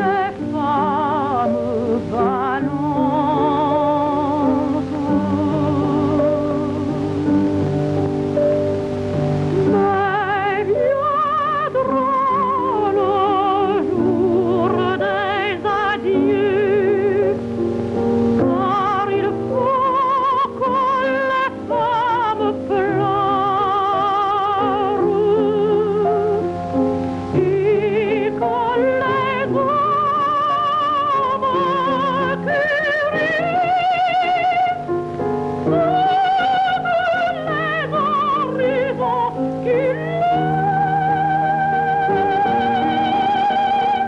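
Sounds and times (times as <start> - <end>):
instrumental accompaniment: 0.0 - 44.0
soprano singing with vibrato: 0.0 - 44.0.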